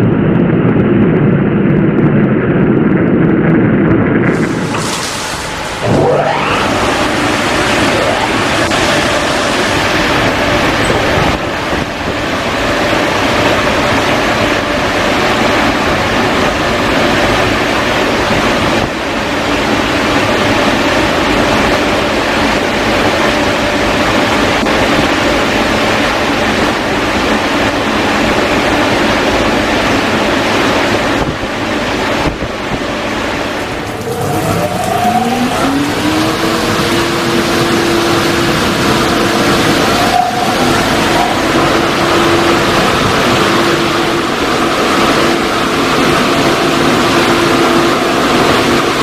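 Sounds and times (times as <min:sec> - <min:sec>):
blower whine: 0:00.0 - 0:49.0
dryer blowers rushing air: 0:00.0 - 0:49.0.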